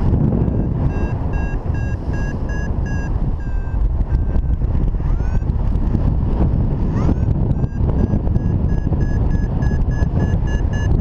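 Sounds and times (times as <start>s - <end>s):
variometer beeping: 0.0s - 5.9s, 6.9s - 11.0s
wind rushing over microphone: 0.0s - 11.0s.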